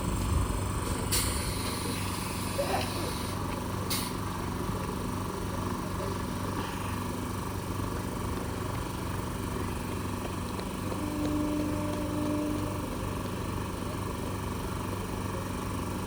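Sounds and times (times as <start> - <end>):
train locomotive humming: 0.0 - 16.0.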